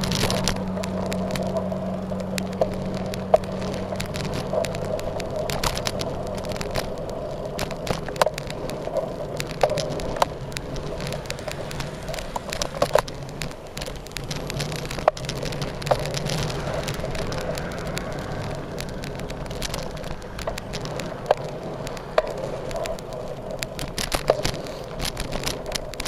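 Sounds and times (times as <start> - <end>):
bike clicks and rattles: 0.0 - 26.0
tyres and wind rumble: 0.0 - 26.0.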